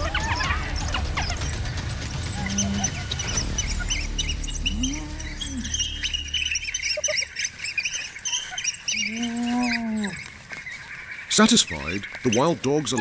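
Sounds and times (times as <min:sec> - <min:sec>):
wild dogs twittering: 0:00.0 - 0:13.0.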